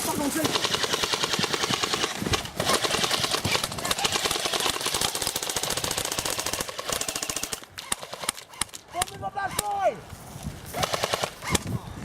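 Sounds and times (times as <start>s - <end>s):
airsoft guns firing bursts: 0.0s - 9.8s, 10.7s - 11.7s.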